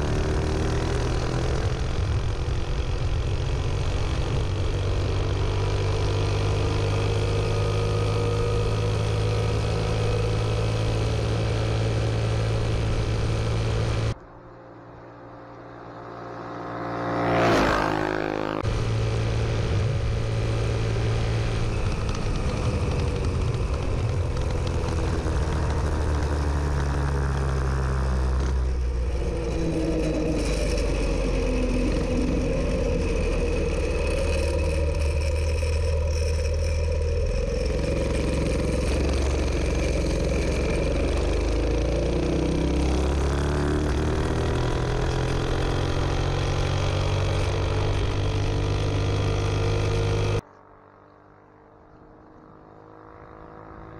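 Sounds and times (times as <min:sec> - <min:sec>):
minibike engine running hard: 0:00.0 - 0:14.2, 0:15.8 - 0:53.9.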